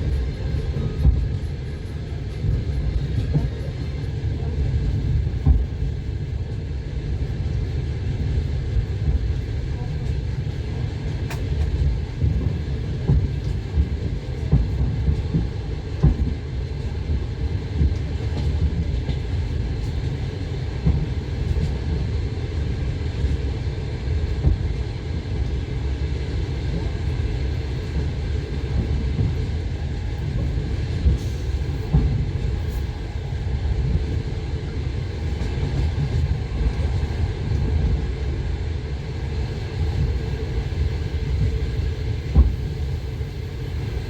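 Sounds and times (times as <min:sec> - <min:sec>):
train rumble from inside carriage: 0:00.0 - 0:44.0.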